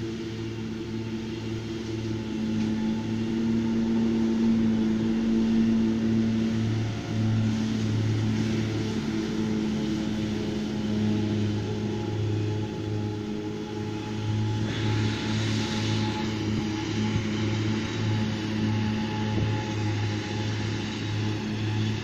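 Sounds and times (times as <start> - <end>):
mowers cutting grass: 0.0 - 22.0
tractor engine running under load: 0.0 - 22.0.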